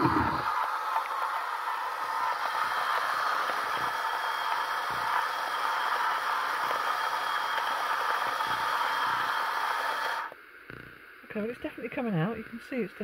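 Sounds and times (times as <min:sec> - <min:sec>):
electric coffee grinder running: 0:00.0 - 0:13.0.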